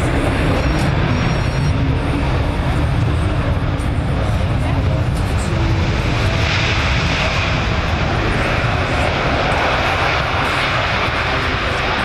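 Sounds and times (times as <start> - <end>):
airliner jet engines flying past: 0.0 - 12.0.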